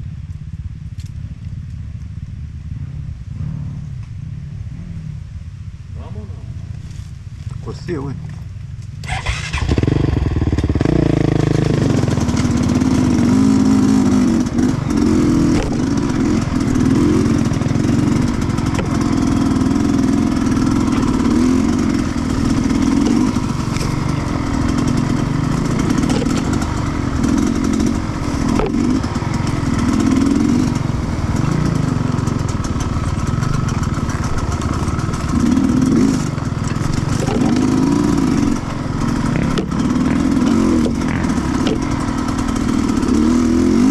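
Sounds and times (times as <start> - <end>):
two-stroke motorcycle engine revving: 2.6 - 7.1, 9.0 - 43.9.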